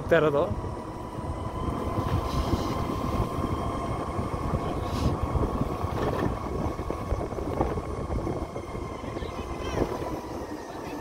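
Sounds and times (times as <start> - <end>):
vehicle rumble on road: 0.0 - 11.0
wind buffeting microphone: 0.0 - 11.0.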